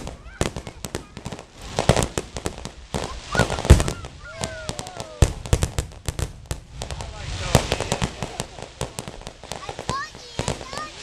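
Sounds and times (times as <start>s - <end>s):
fireworks bangs and crackling pops: 0.0s - 11.0s.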